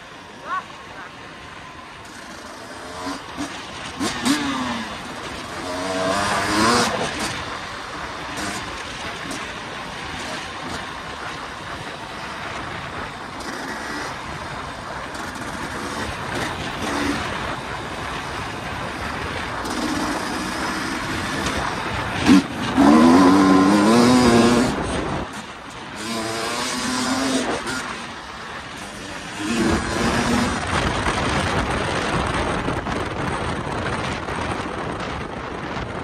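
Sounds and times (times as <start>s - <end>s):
rushing wind noise: 1.2s - 36.0s
dirt bike engine revving: 2.0s - 32.2s.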